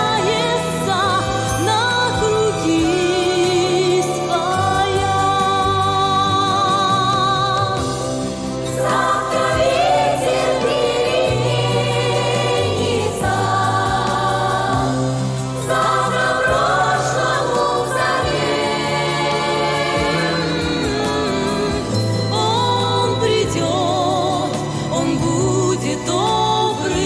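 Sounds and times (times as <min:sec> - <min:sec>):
bass line: 0:00.0 - 0:26.5
choir singing: 0:00.0 - 0:27.0
instrumental accompaniment: 0:00.1 - 0:27.0.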